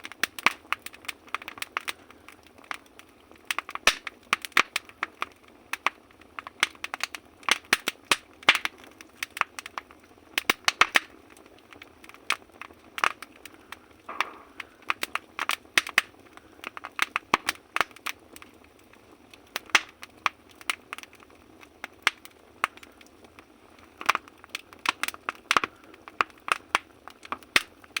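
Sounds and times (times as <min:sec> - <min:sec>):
firewood crackling and popping: 0:00.0 - 0:28.0.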